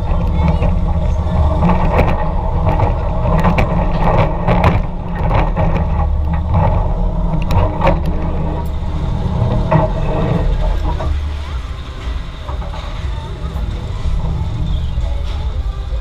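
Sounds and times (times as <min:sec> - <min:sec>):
roller coaster car rattling: 0:00.0 - 0:16.0
roller coaster wheels rumbling: 0:00.0 - 0:16.0.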